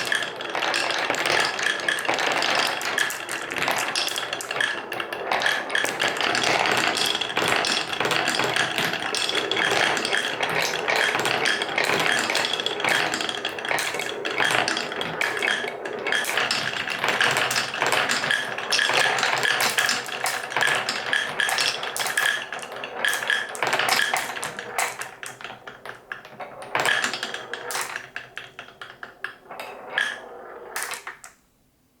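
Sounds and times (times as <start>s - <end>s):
balls clattering down wooden run: 0.0s - 31.4s.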